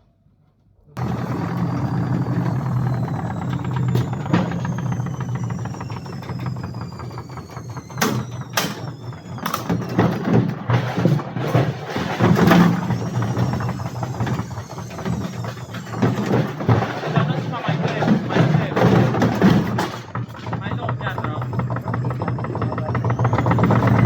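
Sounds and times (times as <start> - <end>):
washing machine hum and whine: 1.0 - 24.0.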